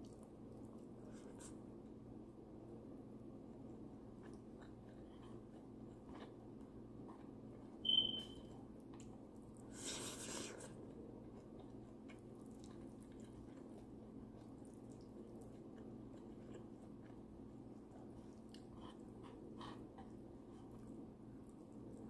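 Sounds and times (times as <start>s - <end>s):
wet chewing: 0.0s - 2.0s, 3.5s - 8.0s, 8.8s - 22.0s.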